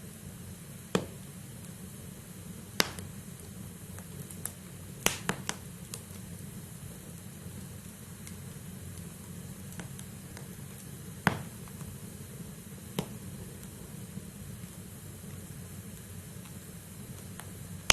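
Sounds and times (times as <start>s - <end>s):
fire crackles and pops: 0.0s - 17.9s
wood fire hissing: 0.0s - 17.9s.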